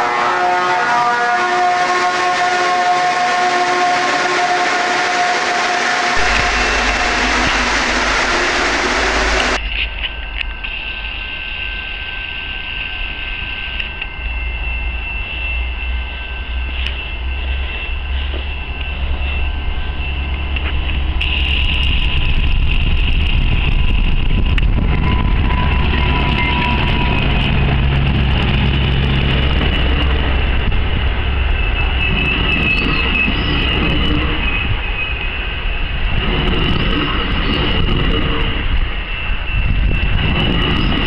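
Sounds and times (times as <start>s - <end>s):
diesel locomotive engine rumble: 0.0s - 41.0s
train wheel squeal: 1.8s - 41.0s.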